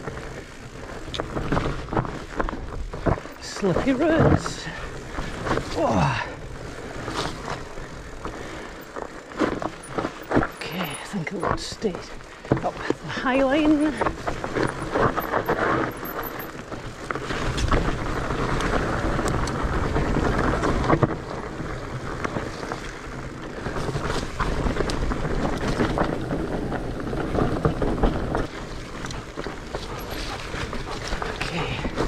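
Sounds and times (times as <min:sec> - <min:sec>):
bike knocking and rattling: 0:00.0 - 0:32.0
wind rumbling on microphone: 0:00.0 - 0:32.0.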